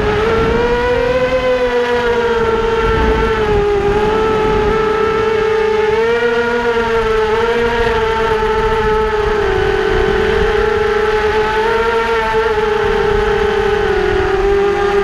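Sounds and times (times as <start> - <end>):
electric motors and propellers whining: 0.0 - 15.0
low wind rumble: 0.0 - 15.0.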